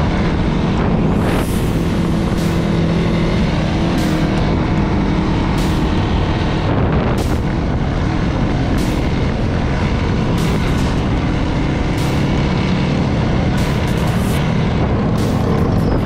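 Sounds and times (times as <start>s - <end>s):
off-road vehicle engine running: 0.0s - 16.0s
wind rushing over microphone: 0.0s - 16.0s.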